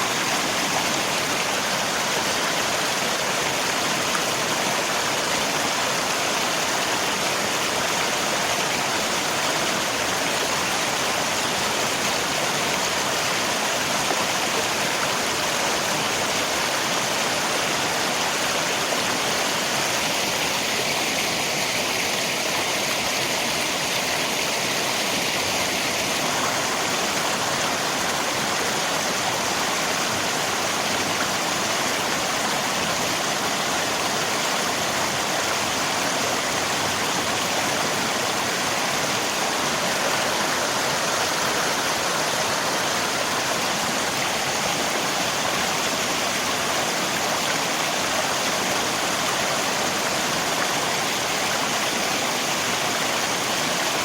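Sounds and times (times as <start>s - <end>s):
rain: 0.0s - 54.0s
river flowing: 0.0s - 54.0s.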